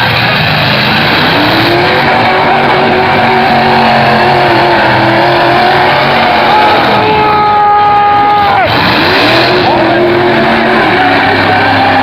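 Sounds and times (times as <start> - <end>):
pickup truck engine revving: 0.0 - 12.0.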